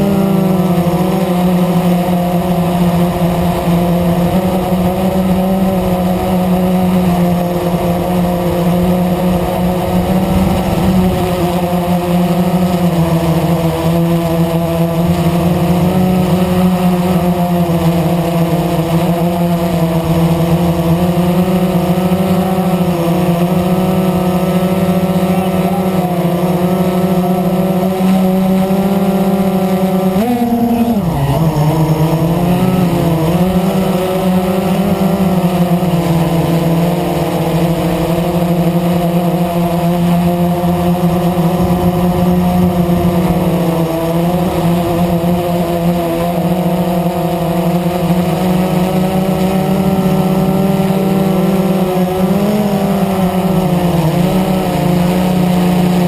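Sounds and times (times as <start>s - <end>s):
quadcopter motors buzzing: 0.0s - 56.0s.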